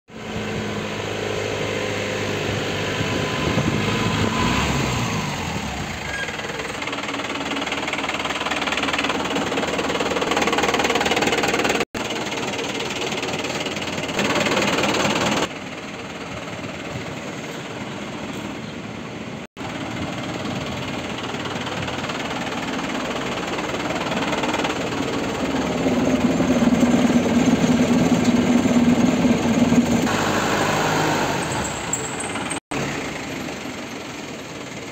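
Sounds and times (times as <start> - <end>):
diesel truck engine idling: 5.0 - 34.9.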